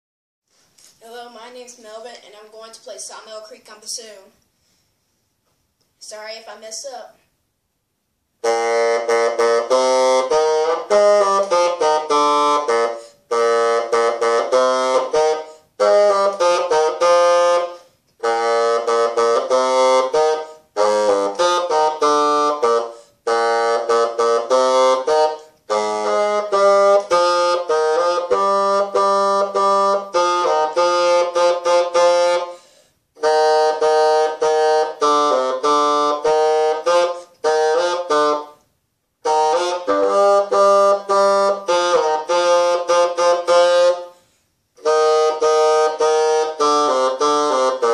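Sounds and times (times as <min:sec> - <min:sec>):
bassoon melody: 0:08.4 - 0:47.9.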